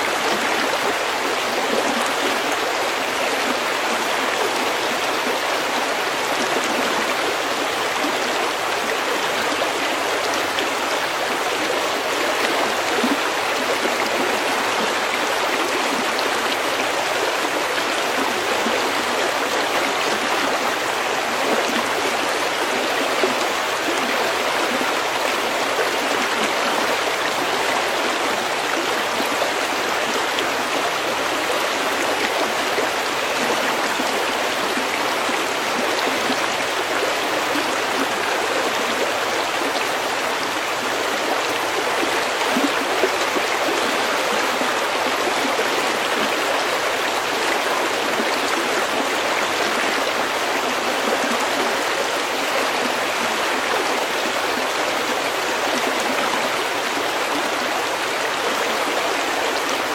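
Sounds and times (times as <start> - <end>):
stream flowing over pebbles: 0.0 - 59.9.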